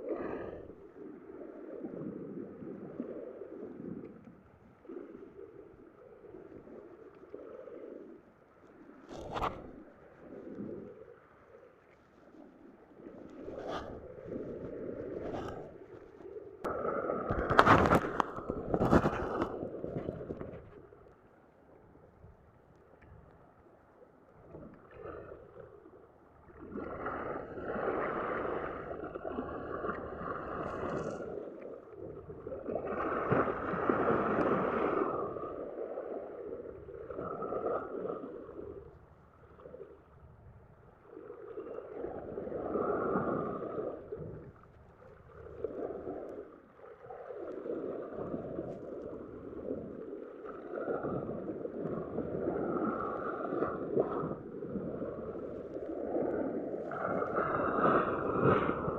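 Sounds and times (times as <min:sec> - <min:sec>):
sea waves washing in: 0:00.0 - 0:21.0, 0:26.4 - 0:39.0, 0:41.0 - 0:58.9.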